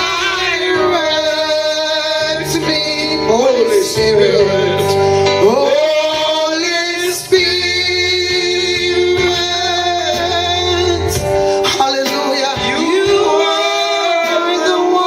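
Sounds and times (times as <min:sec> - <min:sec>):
sustained instrumental accompaniment: 0:00.0 - 0:15.0.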